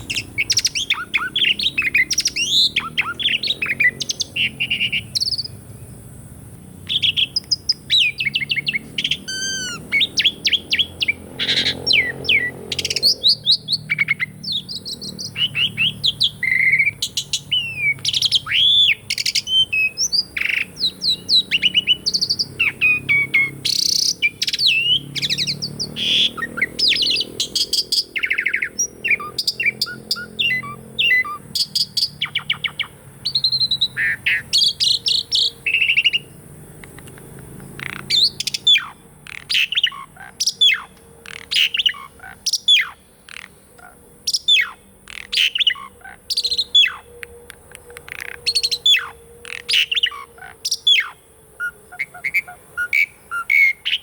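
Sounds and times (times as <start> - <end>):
starling singing: 0.0 - 5.7, 6.7 - 54.0.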